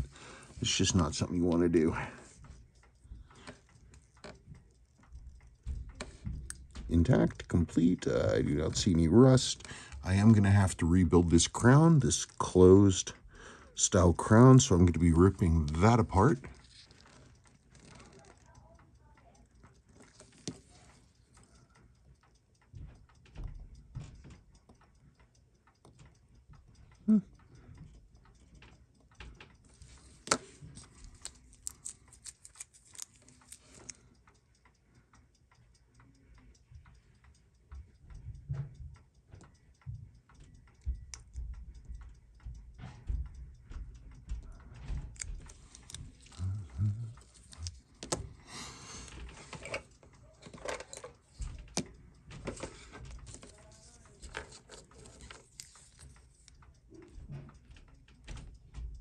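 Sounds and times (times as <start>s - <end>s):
small clicks and taps on watch: 0.0s - 59.0s.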